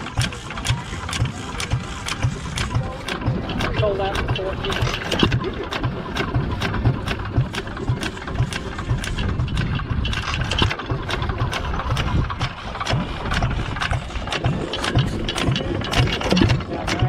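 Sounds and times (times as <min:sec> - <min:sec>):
sharp mechanical clicks: 0:00.0 - 0:17.0
stationary gas engine running: 0:00.0 - 0:17.0.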